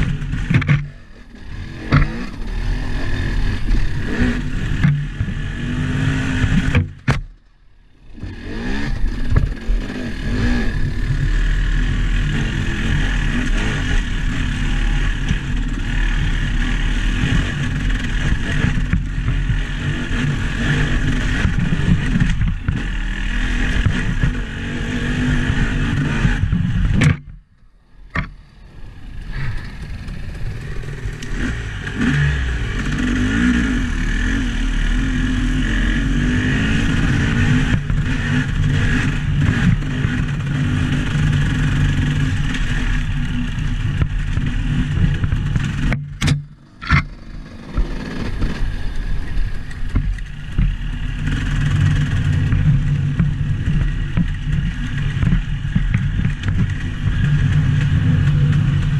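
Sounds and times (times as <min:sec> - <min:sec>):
vehicle engine rumbling: 0:00.0 - 0:58.9.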